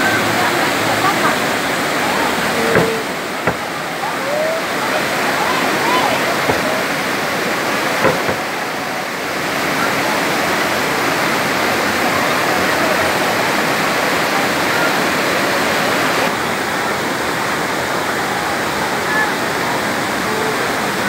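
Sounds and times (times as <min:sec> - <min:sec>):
waterfall rushing and splashing: 0:00.0 - 0:21.0.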